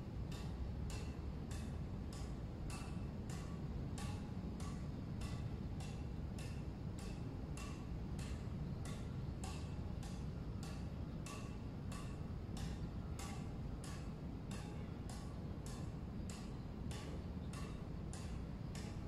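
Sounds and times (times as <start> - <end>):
low background noise: 0.0 - 19.0
ball bouncing on racket strings: 0.3 - 19.0.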